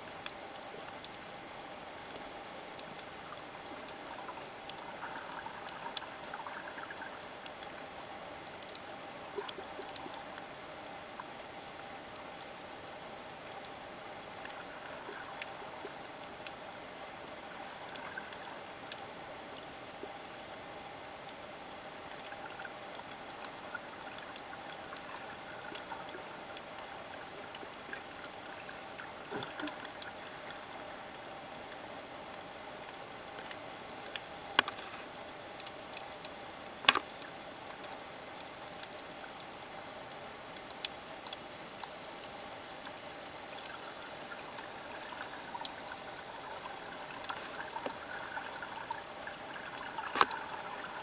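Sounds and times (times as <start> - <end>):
faint hum: 0.0 - 51.0
small crackling clicks: 0.0 - 51.0.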